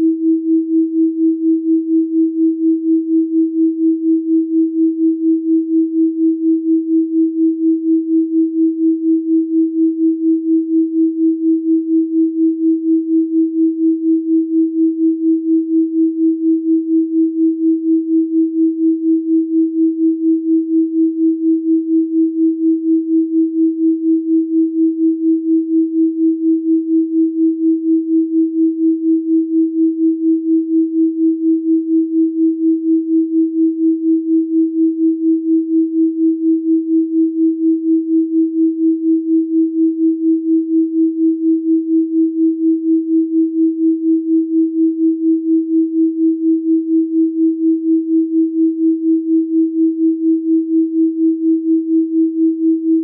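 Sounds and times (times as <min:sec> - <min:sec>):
pulsing electronic sine tone: 0:00.0 - 0:53.0.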